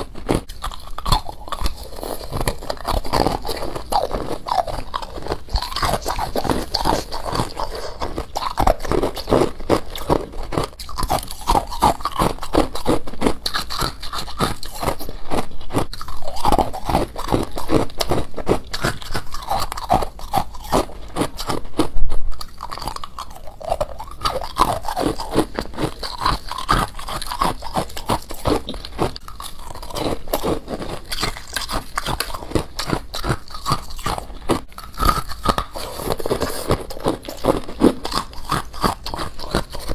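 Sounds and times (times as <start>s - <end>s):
chewing icy crunches: 0.0s - 39.9s.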